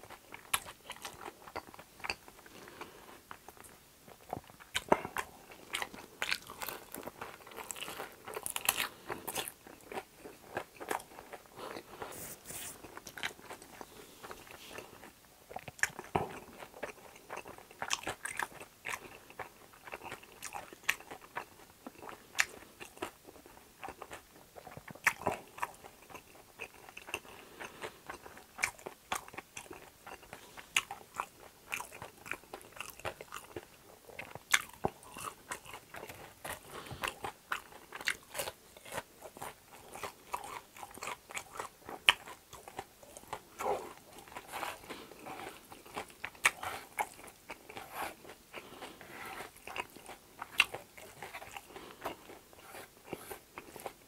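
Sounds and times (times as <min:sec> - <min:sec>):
chewing crispy fried food: 0:00.0 - 0:54.0.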